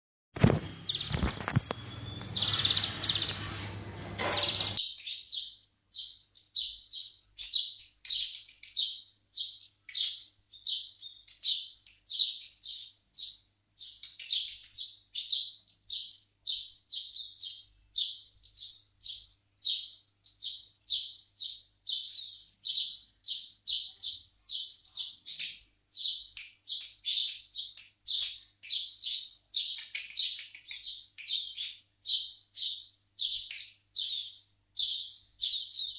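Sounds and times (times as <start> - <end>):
sparrow chirping: 0.4 - 35.9.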